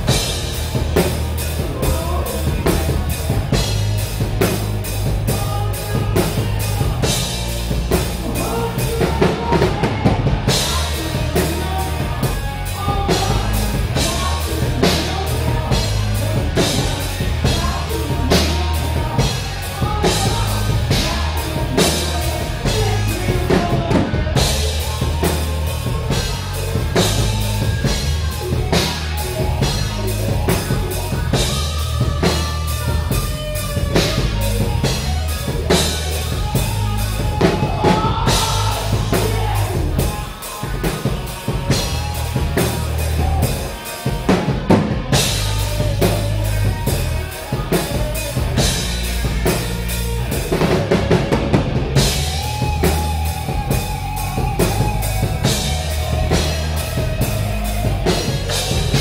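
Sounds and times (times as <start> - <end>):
drum kit hitting: 0.0 - 59.0
heavy bass line: 0.0 - 59.0
rock band playing loud: 0.0 - 59.0.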